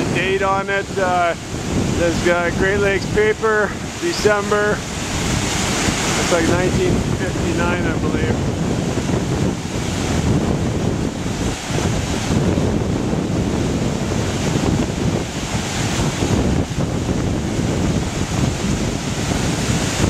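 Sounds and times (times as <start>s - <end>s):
river water rushing: 0.0s - 20.0s
wind buffeting microphone: 0.0s - 20.0s.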